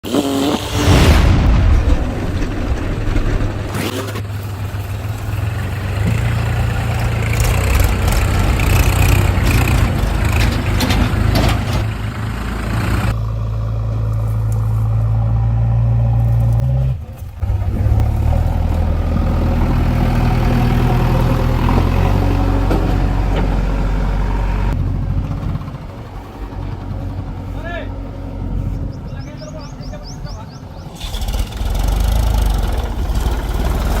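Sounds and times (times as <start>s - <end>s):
diesel engine running under load: 1.3s - 34.0s.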